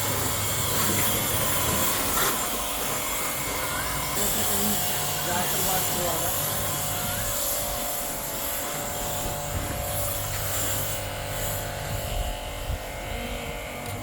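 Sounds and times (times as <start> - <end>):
electric pump buzzing hum: 0.0 - 14.0.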